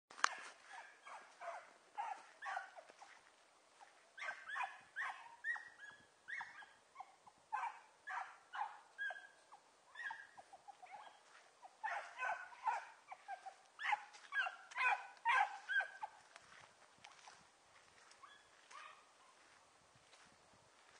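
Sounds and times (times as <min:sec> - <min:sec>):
dogs yelping and barking: 0:00.2 - 0:16.4, 0:18.0 - 0:19.6.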